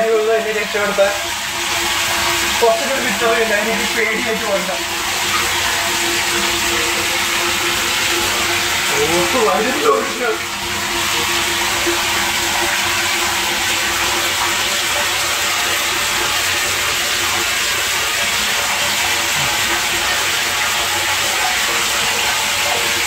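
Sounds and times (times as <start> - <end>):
water pouring into tank: 0.0 - 23.0.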